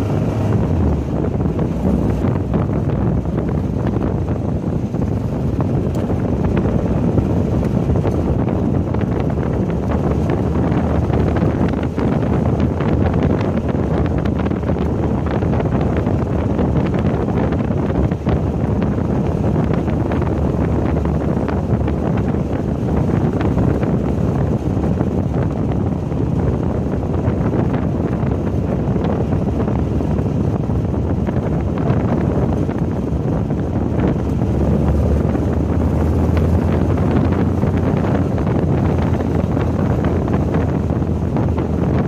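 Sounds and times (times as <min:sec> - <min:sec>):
car engine running: 0:00.0 - 0:42.0
wind buffeting microphone: 0:00.0 - 0:42.0.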